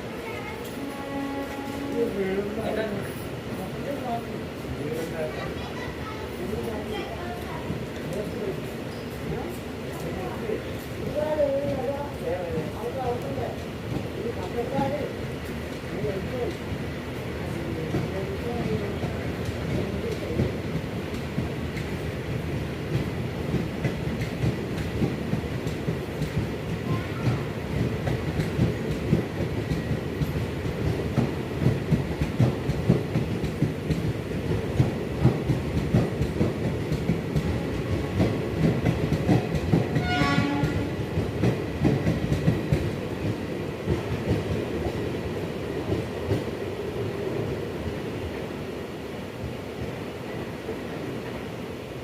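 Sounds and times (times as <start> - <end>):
train rumbling: 0.0 - 52.0.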